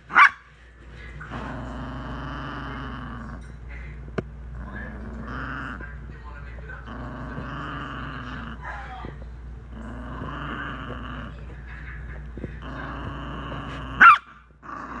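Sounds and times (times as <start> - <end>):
small dog growling: 1.2 - 3.7, 4.5 - 15.0.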